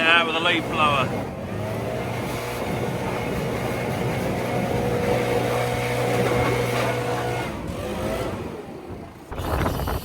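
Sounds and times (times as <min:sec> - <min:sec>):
leaf blower running: 0:00.0 - 0:09.2.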